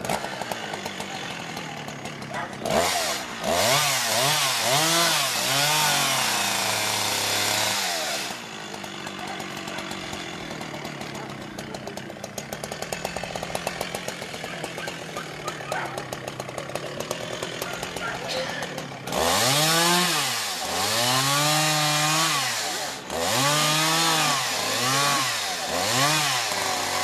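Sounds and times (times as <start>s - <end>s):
chainsaw revving and idling: 0.0s - 27.0s.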